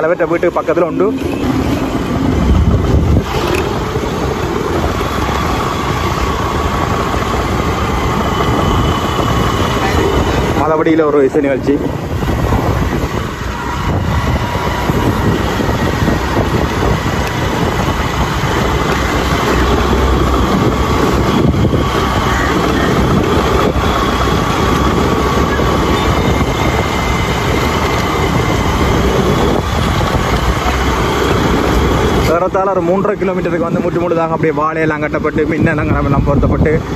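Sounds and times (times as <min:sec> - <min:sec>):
motorbike engine: 0:00.0 - 0:36.9
wind on microphone: 0:00.0 - 0:36.9.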